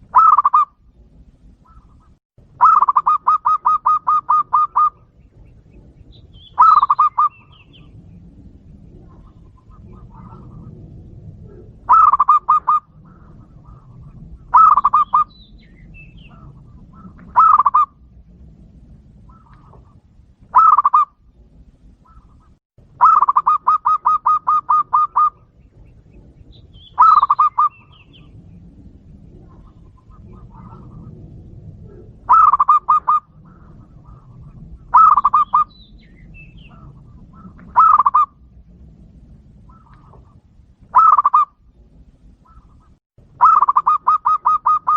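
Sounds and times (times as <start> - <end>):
dove cooing: 0.0 - 0.8, 1.6 - 18.1, 19.2 - 21.2, 22.0 - 28.5, 29.1 - 38.7, 39.6 - 44.9.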